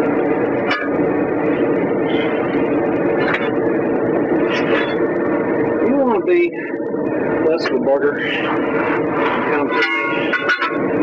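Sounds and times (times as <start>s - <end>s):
machine drone: 0.0s - 11.0s
tire iron scraping wheel rim: 0.0s - 11.0s.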